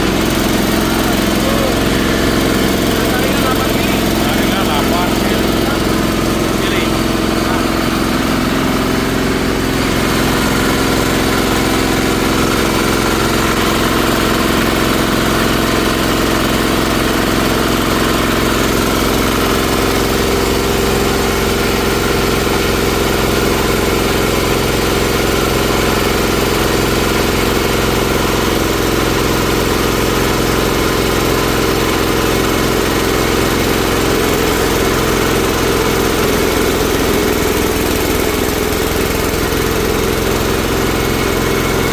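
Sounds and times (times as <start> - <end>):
shredder machine grinding: 0.0 - 41.9.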